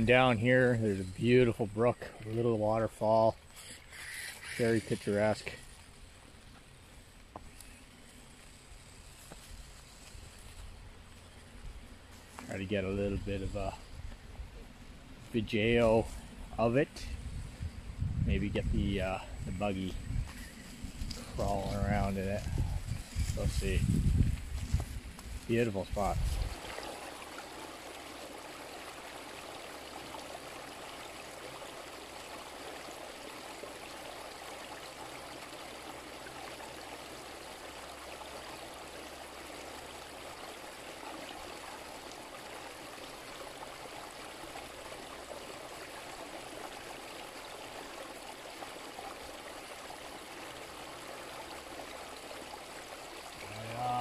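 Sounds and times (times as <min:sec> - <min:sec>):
brook babbling over waterfall: 0:00.0 - 0:17.0, 0:25.3 - 0:54.0.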